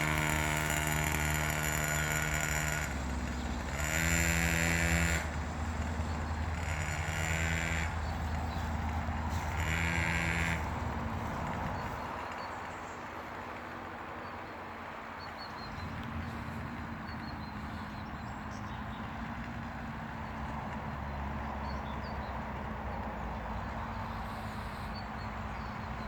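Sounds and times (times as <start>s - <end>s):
motocross bike engine running: 0.0s - 26.0s.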